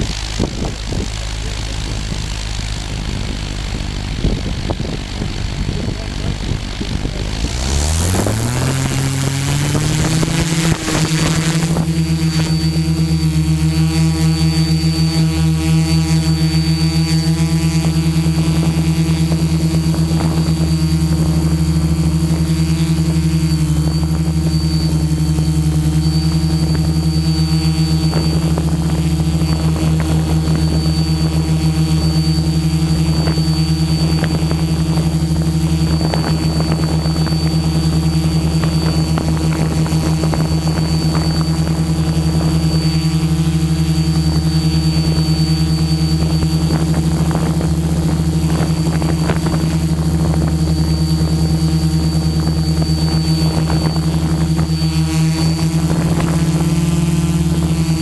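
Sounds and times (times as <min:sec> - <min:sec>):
quadcopter motors humming: 0:00.0 - 0:58.0.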